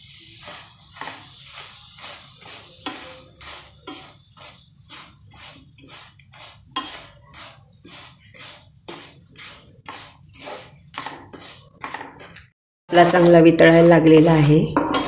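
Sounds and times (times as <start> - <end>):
spatula scraping a pan: 0.0 - 15.0.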